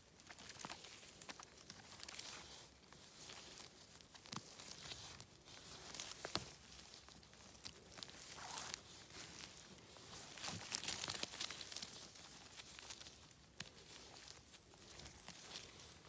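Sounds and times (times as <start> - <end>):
forest litter rustling and crackling: 0.0 - 16.0
twigs snapping: 0.2 - 16.0.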